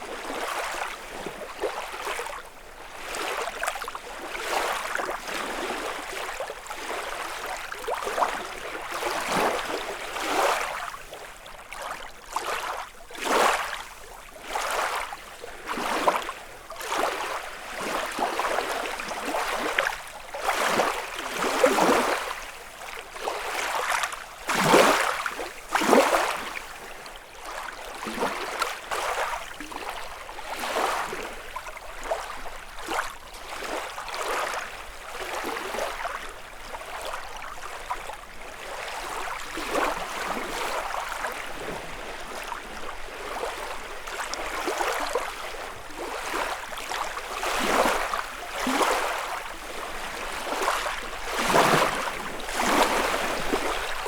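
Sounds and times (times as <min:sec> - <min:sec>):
lake waves lapping on shore: 0:00.0 - 0:54.0.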